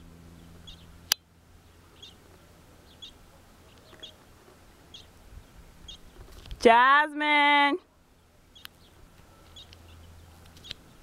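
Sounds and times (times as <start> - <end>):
small bird chirping: 0.3 - 6.6, 8.1 - 11.0.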